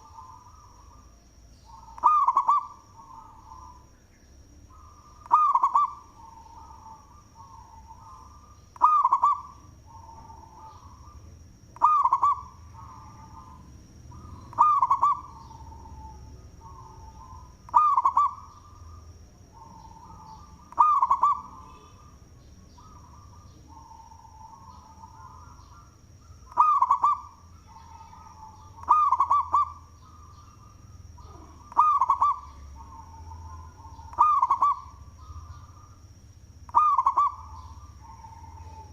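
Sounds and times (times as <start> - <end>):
dove cooing: 0.0 - 3.9, 4.6 - 36.0, 36.7 - 38.9.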